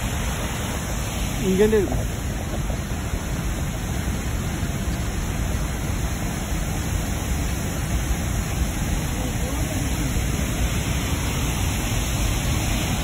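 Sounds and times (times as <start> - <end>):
rushing noise with low rumble: 0.0 - 13.0.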